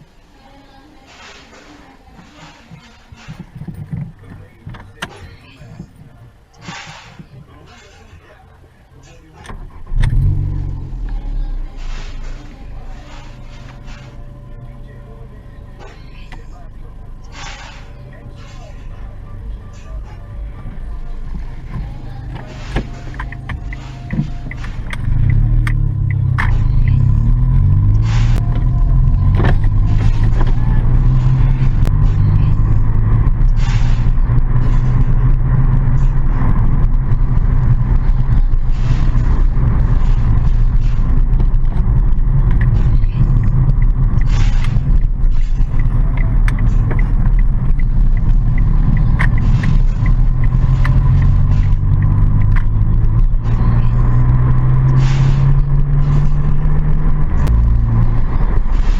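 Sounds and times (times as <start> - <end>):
car engine rumble: 0.0 - 58.9.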